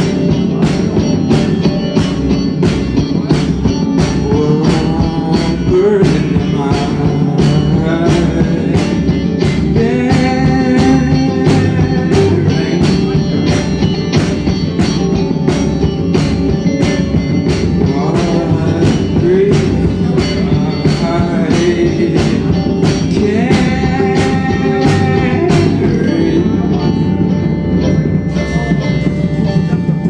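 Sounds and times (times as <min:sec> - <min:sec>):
drums beating: 0:00.0 - 0:30.0
electric guitar: 0:00.0 - 0:30.0
person singing: 0:00.0 - 0:30.0.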